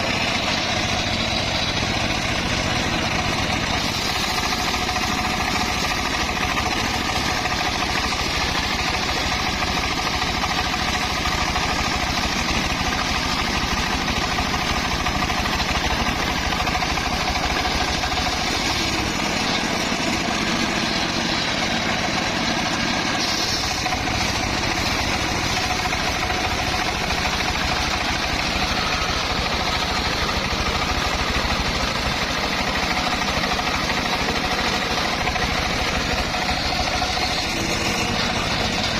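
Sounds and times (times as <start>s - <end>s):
circular saw running: 0.0s - 38.9s
engine drone: 0.0s - 38.9s.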